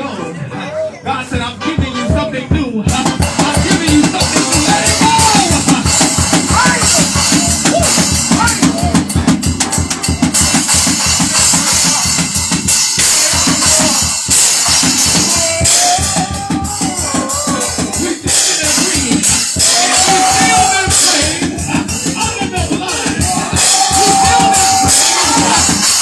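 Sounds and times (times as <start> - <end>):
gospel praise music: 0.0 - 26.0
drum kit fast beat: 1.3 - 26.0
cymbals: 1.6 - 26.0.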